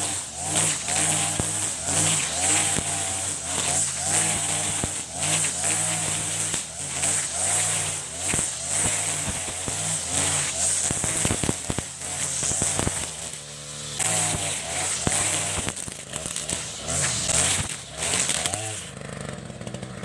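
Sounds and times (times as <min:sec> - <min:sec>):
brush cutter engine revving: 0:00.0 - 0:20.0
trimmer line ticking on debris: 0:00.0 - 0:20.0.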